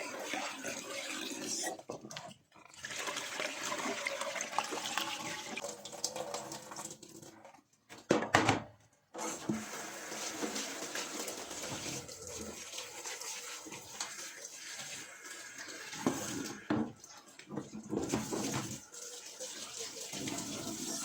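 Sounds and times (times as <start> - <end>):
running tap water: 0.0 - 7.6, 9.2 - 21.0.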